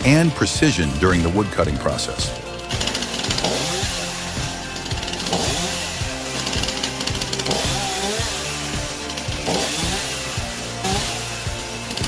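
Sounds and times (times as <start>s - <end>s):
background music: 0.0s - 12.0s
chainsaw cutting logs: 0.0s - 12.0s.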